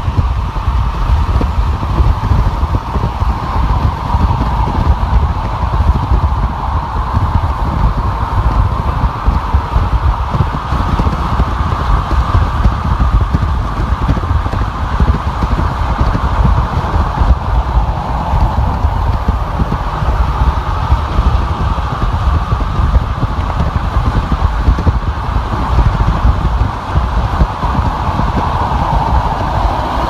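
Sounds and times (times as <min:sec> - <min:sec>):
car road noise: 0:00.0 - 0:30.0.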